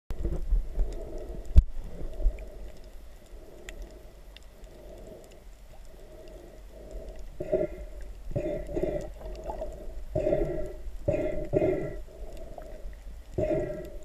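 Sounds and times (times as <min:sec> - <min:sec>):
muffled underwater rumble: 0:00.1 - 0:14.0
faint ticks: 0:00.2 - 0:14.0.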